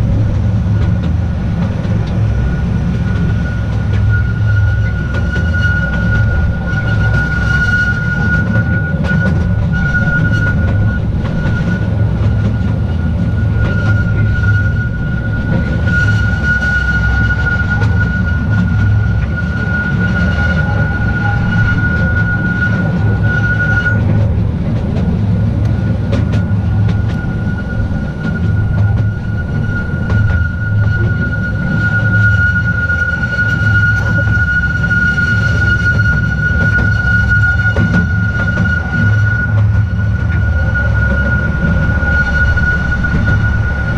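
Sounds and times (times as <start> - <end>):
train rumbling on track: 0.0 - 43.9
steady high tone: 2.5 - 43.9.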